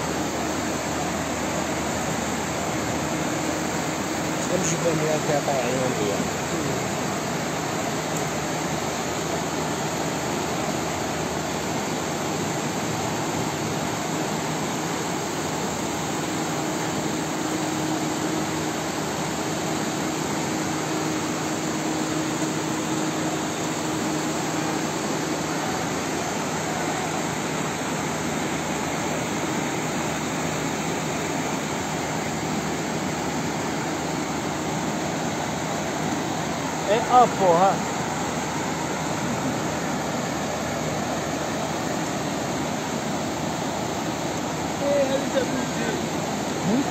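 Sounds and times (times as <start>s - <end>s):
faint steady hum: 0.0s - 46.9s
floodwater rushing: 0.0s - 46.9s.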